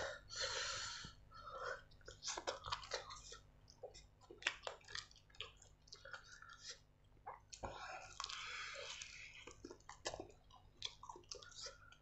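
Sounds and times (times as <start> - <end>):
chewing smacks and clicks: 1.9 - 12.0.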